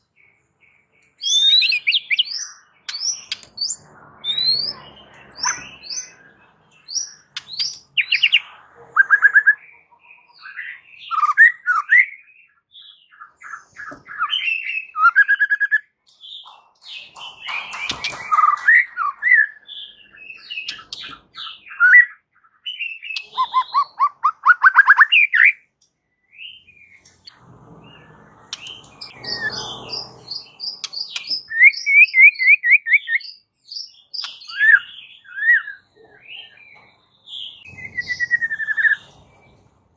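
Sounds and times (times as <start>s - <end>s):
songbird whistling and trilling: 1.1s - 8.4s, 9.0s - 27.1s, 28.5s - 36.8s, 37.4s - 39.6s.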